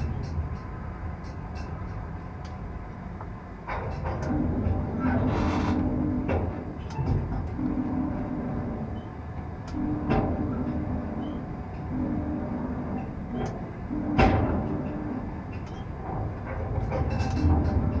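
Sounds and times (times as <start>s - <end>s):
crane motors humming: 0.0s - 18.0s.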